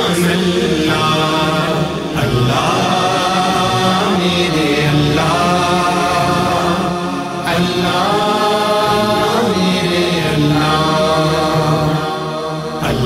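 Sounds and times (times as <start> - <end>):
unaccompanied vocal chant: 0.0 - 13.0.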